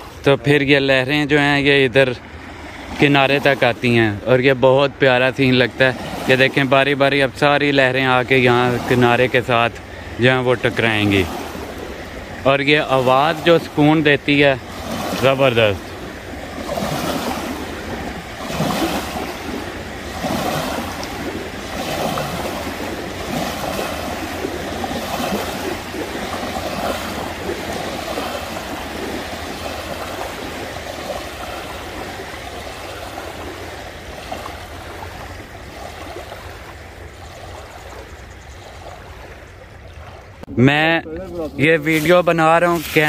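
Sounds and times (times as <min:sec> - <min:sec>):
waves lapping on shore: 0:00.0 - 0:43.0.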